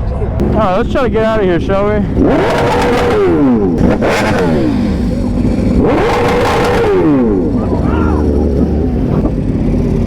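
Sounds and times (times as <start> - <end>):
motorcycle engine revving: 0.4 - 10.0.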